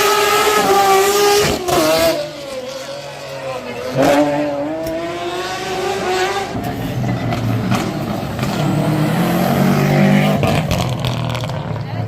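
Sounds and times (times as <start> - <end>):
rally car engines accelerating: 0.0 - 12.0.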